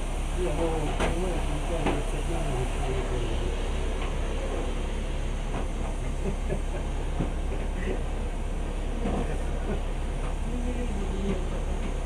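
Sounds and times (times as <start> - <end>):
train carriage hum: 0.0 - 12.0.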